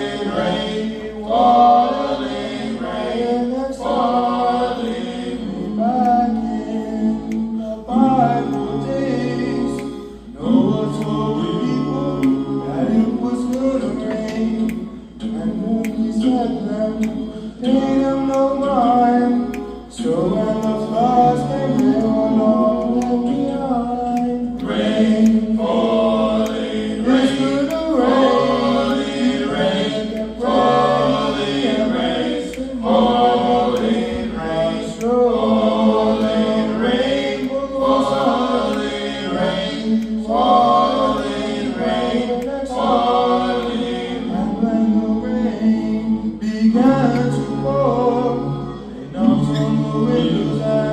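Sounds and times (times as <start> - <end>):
choir-like voices singing: 0.0 - 50.9.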